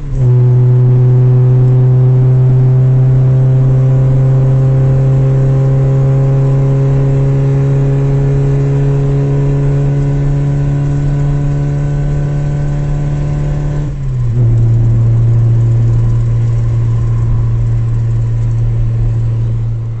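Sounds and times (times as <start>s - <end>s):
car engine drone: 0.0s - 20.0s.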